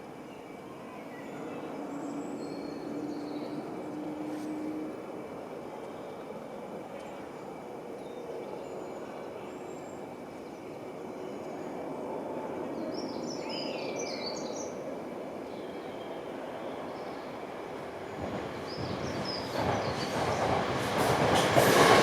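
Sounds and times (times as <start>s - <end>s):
electric trains rumbling: 1.0s - 13.4s, 14.7s - 22.0s.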